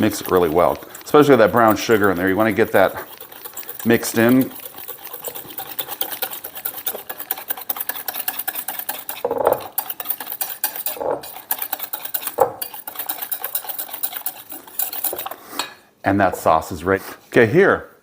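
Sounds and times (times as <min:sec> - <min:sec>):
utensil stirring sauce in bowl: 0:00.0 - 0:15.7
utensil clinking on bowl: 0:00.0 - 0:15.8.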